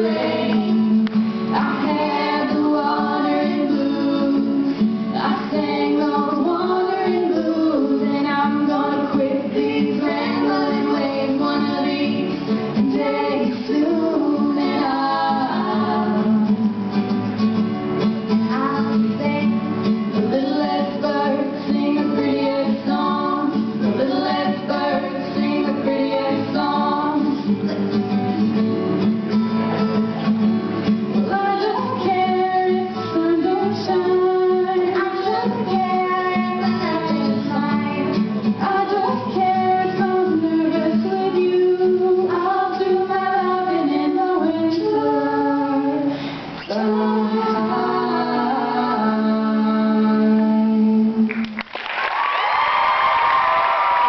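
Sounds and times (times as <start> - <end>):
girls singing: 0.0 - 16.9, 18.4 - 27.6, 31.2 - 51.3
acoustic guitar: 0.0 - 54.0.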